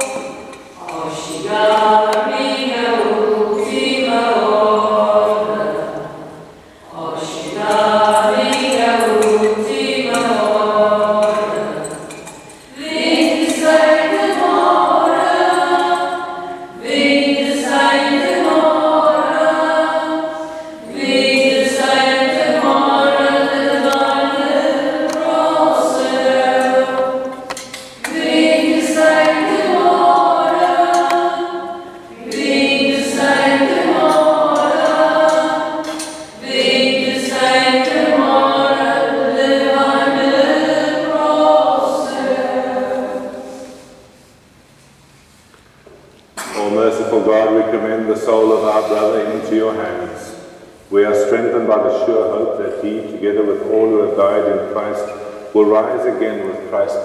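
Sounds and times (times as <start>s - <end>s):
choir singing a hymn: 0.0s - 44.4s, 46.4s - 57.0s.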